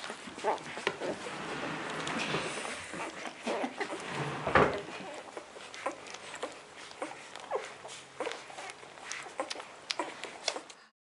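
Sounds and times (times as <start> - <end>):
puppies squeaking: 0.0 - 10.9
puppies sucking: 0.0 - 10.9.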